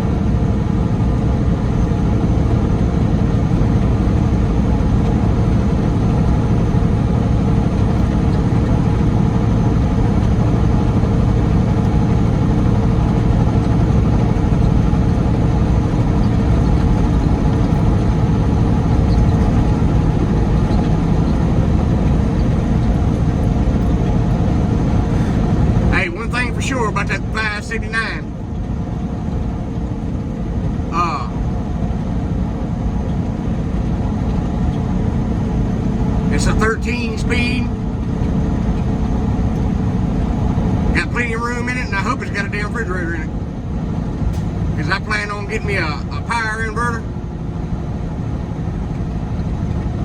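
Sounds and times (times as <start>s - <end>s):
truck diesel engine running: 0.0s - 50.0s.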